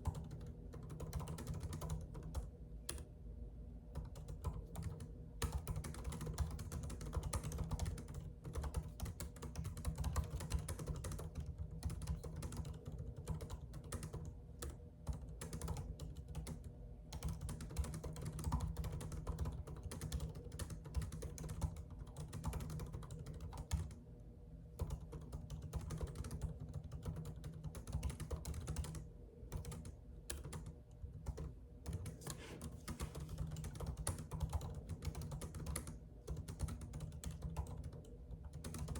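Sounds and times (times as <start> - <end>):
typing on a keyboard: 0.0 - 3.1, 3.9 - 24.0, 24.8 - 38.9.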